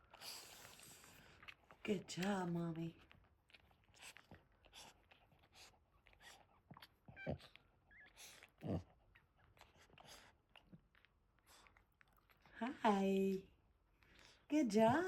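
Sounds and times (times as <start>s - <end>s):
dog licking puppies: 0.0s - 15.0s.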